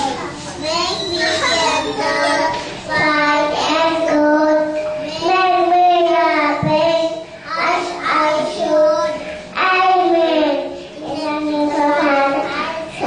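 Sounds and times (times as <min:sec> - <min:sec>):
girl singing into microphone: 0:00.7 - 0:13.0.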